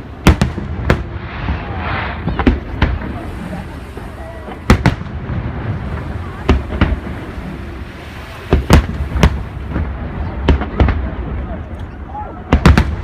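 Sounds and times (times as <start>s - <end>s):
continuous low rumble: 0.0s - 13.0s
fireworks booming: 0.0s - 13.0s.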